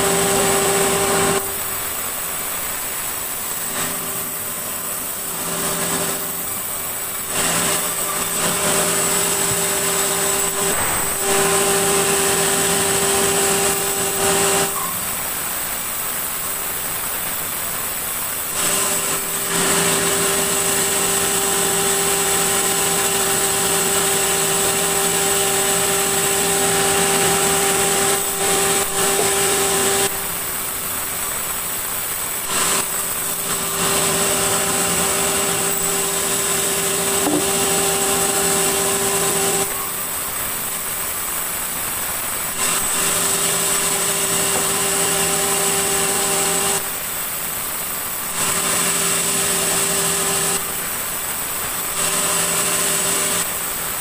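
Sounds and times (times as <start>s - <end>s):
band saw blade whining: 0.0s - 2.0s, 3.0s - 15.2s, 18.5s - 41.1s, 42.1s - 47.0s, 48.2s - 50.9s.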